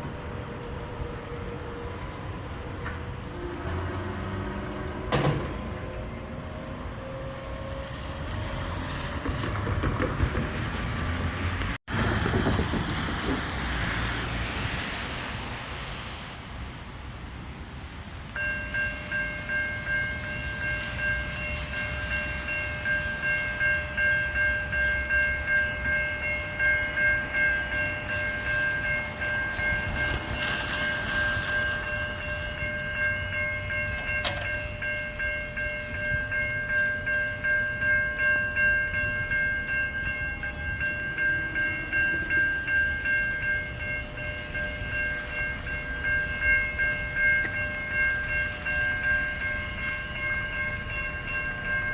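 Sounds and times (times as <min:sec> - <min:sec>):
level crossing warning bells: 0:00.0 - 0:11.2, 0:18.2 - 0:51.9.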